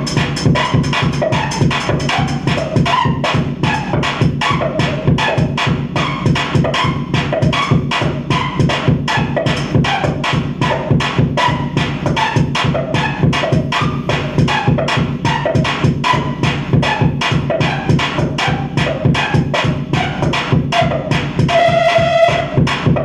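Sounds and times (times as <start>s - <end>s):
harsh percussive pulse: 0.0s - 23.0s.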